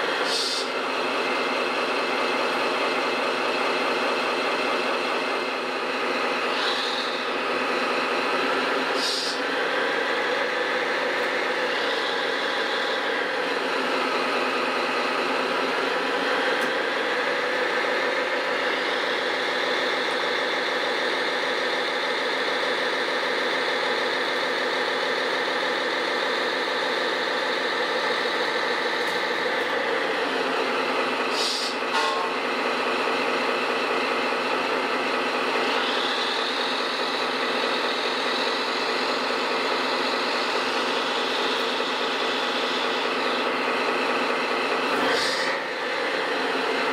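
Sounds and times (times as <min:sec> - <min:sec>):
model machine motor drone and whine: 0:00.0 - 0:46.9.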